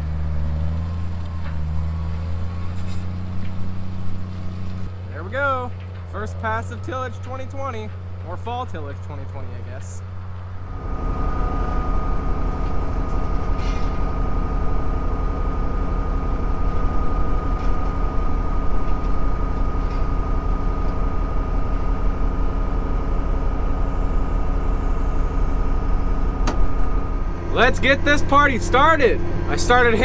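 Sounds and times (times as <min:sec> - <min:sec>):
tractor diesel engine running: 0:00.0 - 0:30.0
steady high whine: 0:02.8 - 0:30.0.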